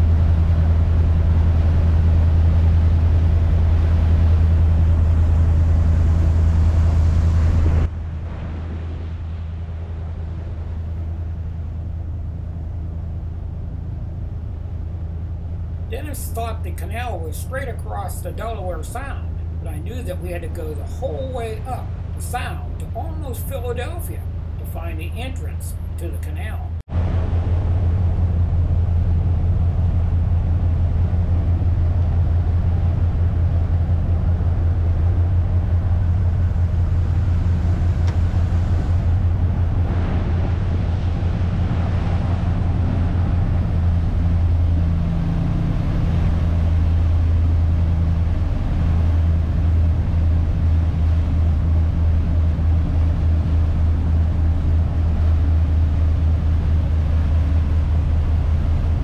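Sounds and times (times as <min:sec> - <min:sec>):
boat diesel engine droning: 0:00.0 - 0:59.0.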